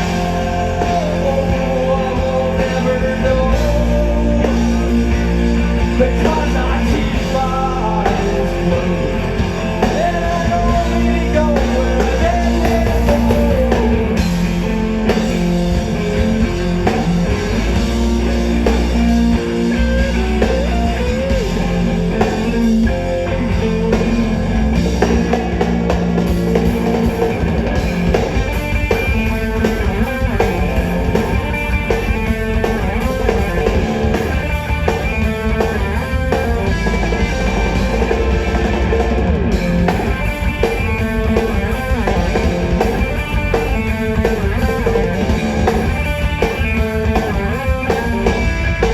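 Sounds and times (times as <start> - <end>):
drum kit: 0.0 - 48.9
electric guitars: 0.0 - 48.9.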